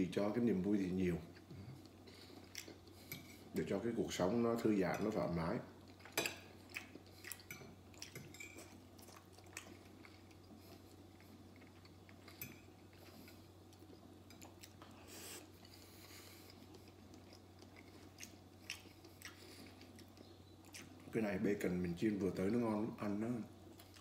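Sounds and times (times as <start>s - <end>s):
steady low hum: 0.0s - 24.0s
soft chewing: 0.6s - 3.9s, 4.5s - 21.2s, 23.5s - 24.0s.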